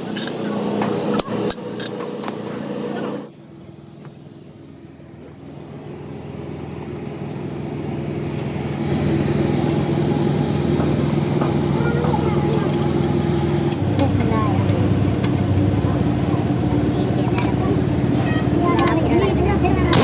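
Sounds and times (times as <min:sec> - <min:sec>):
motor vehicle engine humming: 0:00.0 - 0:20.0.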